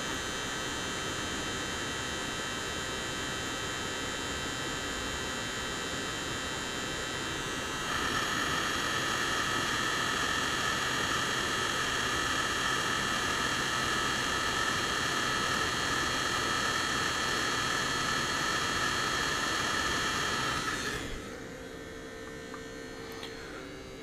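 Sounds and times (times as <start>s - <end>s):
hot-air gun blowing with fan whine: 0.0s - 24.0s.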